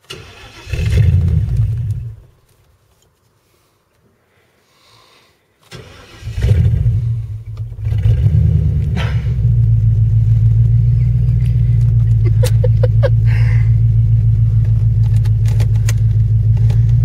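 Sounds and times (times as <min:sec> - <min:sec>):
car engine cranking and starting: 0:00.0 - 0:02.3, 0:05.6 - 0:17.0
open exhaust engine rumble: 0:00.0 - 0:02.6, 0:05.7 - 0:17.0.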